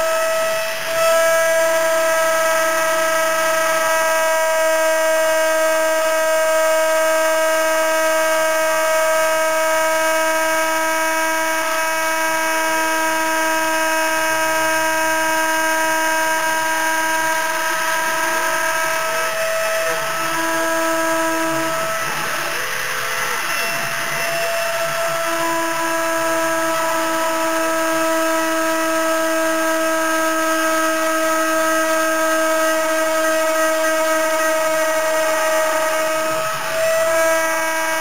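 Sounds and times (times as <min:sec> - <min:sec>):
axis motors whirring: 0:00.0 - 0:38.0
router spindle whining: 0:00.0 - 0:38.0.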